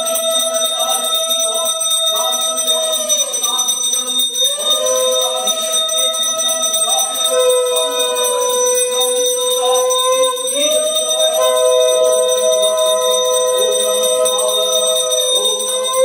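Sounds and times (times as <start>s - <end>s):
hand bell ringing: 0.0s - 16.0s.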